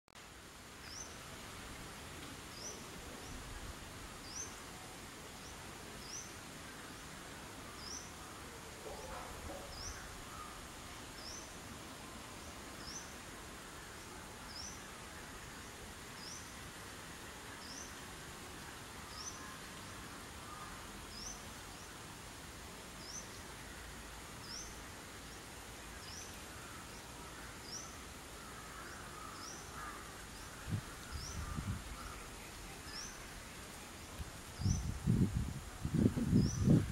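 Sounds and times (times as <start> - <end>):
outdoor background noise: 0.1 - 36.9.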